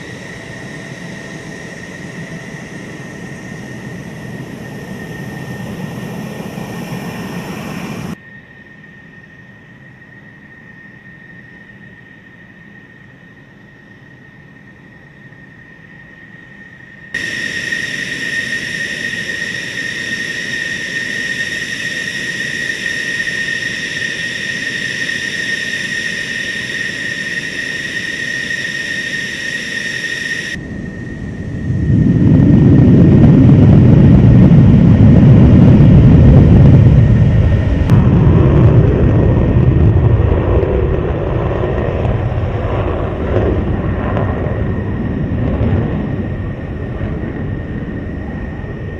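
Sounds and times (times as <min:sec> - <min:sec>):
deep jet engine roar: 0:00.0 - 0:08.4, 0:17.0 - 0:48.9
jet engine high-pitched whine: 0:00.0 - 0:48.9.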